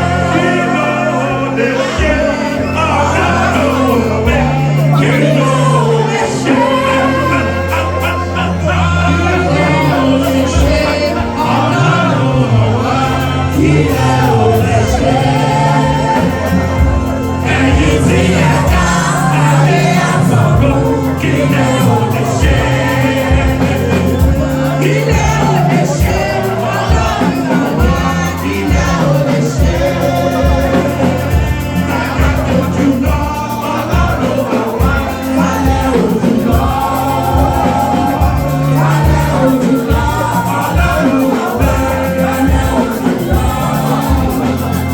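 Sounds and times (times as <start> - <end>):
band accompaniment with bass beat: 0.0 - 44.9
group singing gospel: 0.0 - 44.9.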